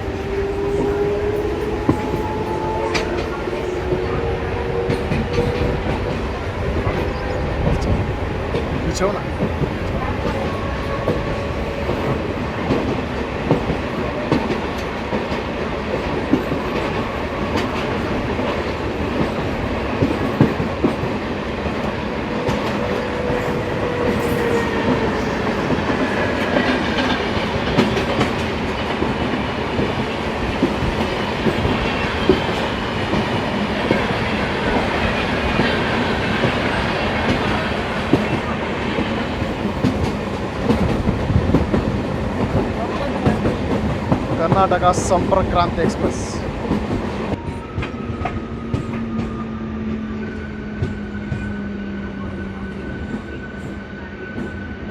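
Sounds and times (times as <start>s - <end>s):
train rumbling on track: 0.0s - 54.9s.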